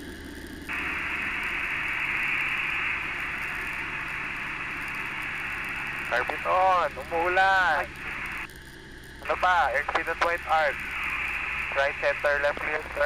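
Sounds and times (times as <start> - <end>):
light plane engine drone: 0.0 - 13.0
radio static hiss: 0.4 - 13.0.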